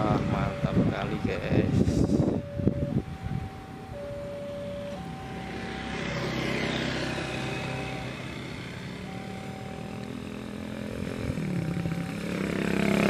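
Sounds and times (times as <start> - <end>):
level crossing warning beeps: 0.0 - 10.6, 11.4 - 12.3
motorcycle engines: 0.0 - 13.0
road traffic: 0.0 - 13.0.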